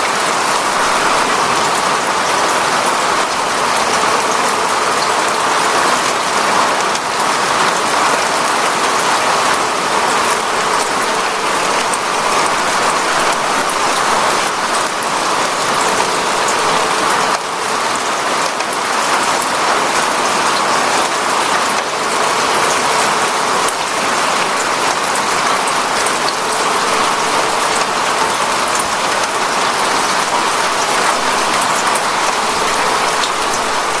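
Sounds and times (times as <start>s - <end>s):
steady rain hiss: 0.0s - 34.0s.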